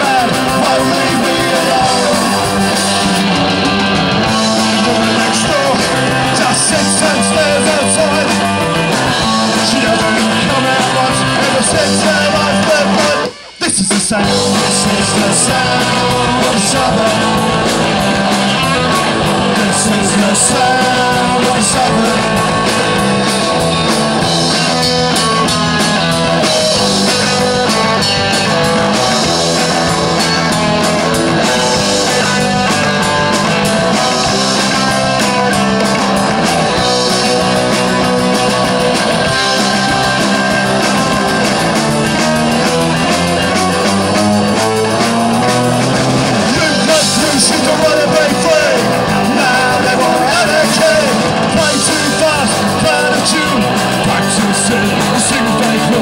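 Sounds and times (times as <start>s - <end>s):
electric guitar: 0.0s - 56.0s
punk rock band playing: 0.0s - 56.0s.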